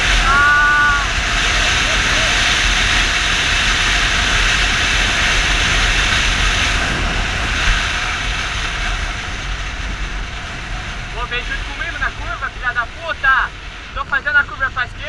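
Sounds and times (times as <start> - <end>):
motorcycle road noise: 0.0 - 15.0
wind rush: 0.0 - 15.0.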